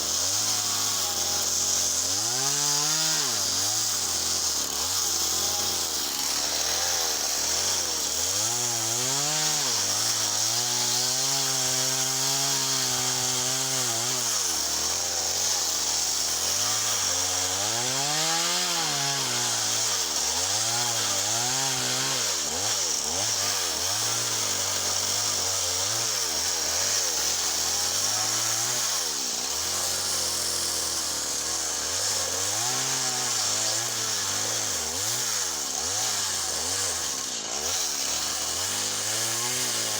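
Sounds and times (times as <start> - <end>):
chainsaw cutting wood: 0.0 - 39.9
chainsaw engine revving: 0.0 - 39.9.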